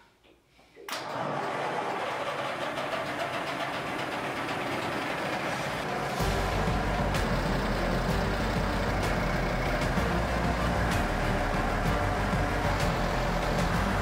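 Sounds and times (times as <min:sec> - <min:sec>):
diesel engine clattering: 0:02.2 - 0:14.0.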